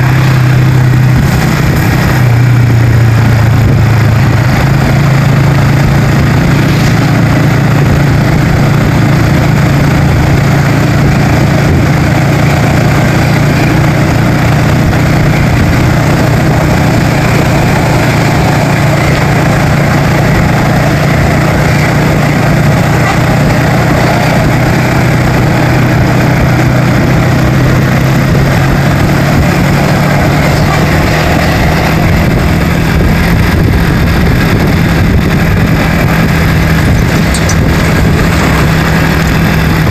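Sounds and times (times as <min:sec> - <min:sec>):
road noise: 0:00.0 - 0:39.9
vehicle engine droning: 0:00.0 - 0:39.9.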